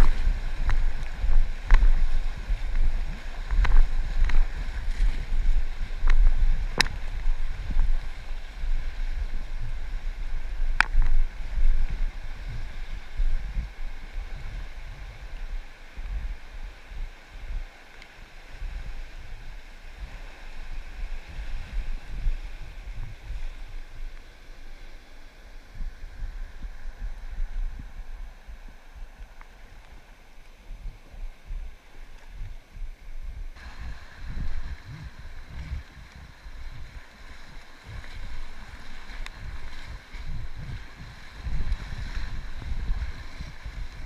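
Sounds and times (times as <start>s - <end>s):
river water rushing: 0.0s - 44.0s
wind rumbling on microphone: 0.0s - 44.0s.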